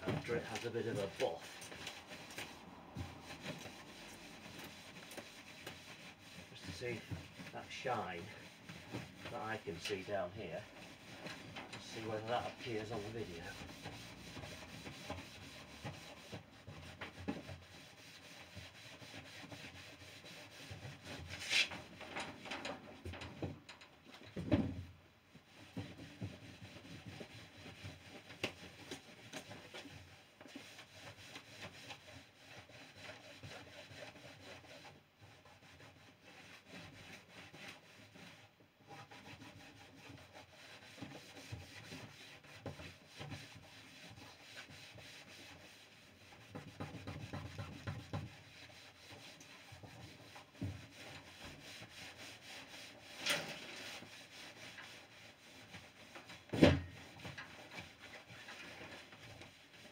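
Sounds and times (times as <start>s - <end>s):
cloth rubbing on wood: 0.0s - 22.5s, 25.3s - 59.9s.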